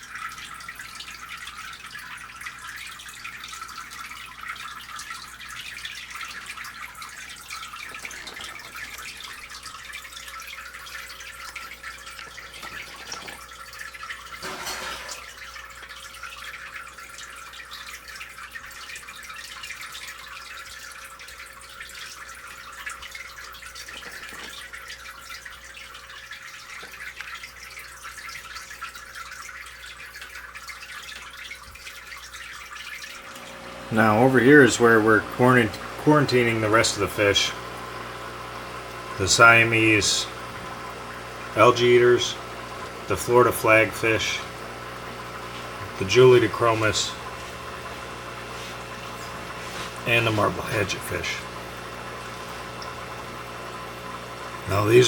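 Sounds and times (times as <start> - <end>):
water trickling and dripping: 0.0 - 55.0.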